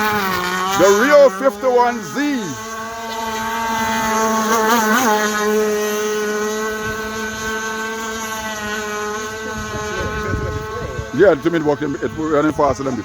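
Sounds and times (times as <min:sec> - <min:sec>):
rc boat engine whine: 0:00.0 - 0:13.0.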